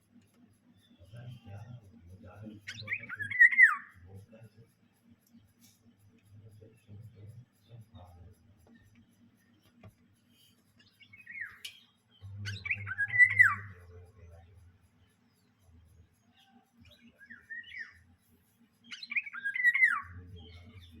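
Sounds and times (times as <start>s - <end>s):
birds chirping and calling: 0.2s - 21.0s.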